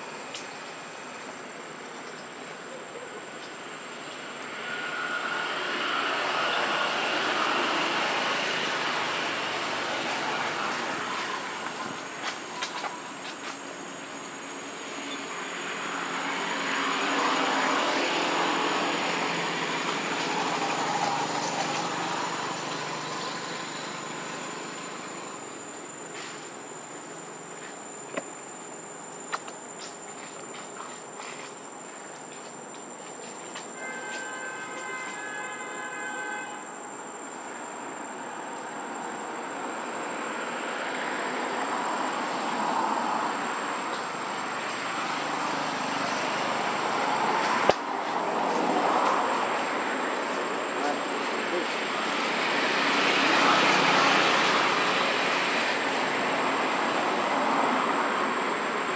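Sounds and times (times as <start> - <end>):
insects droning high-pitched whine: 0.0 - 58.9.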